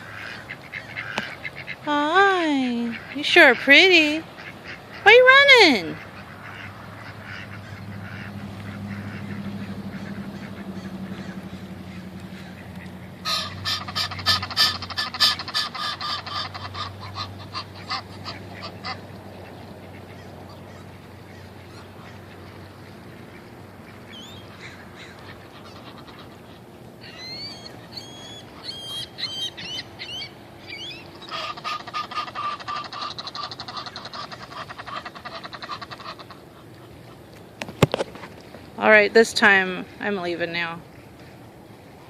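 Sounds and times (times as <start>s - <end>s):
ducks and geese calling: 0.0s - 42.0s.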